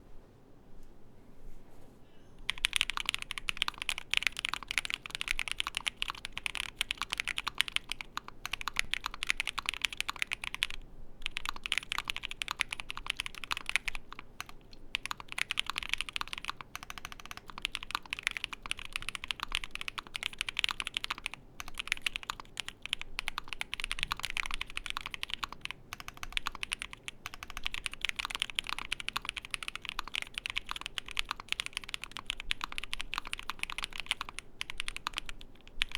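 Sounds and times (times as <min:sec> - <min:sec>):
mechanical keyboard typing: 0:02.5 - 0:35.9.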